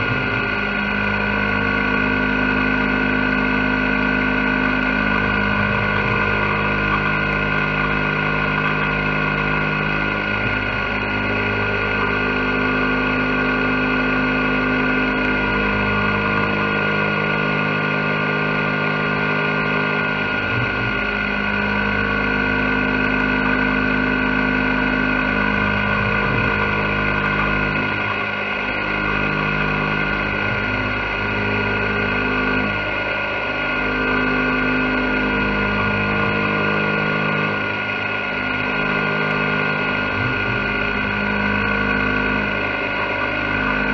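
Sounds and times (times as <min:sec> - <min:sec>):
low machine tones: 0:00.0 - 0:43.9
milling machine spindle whine: 0:00.0 - 0:43.9.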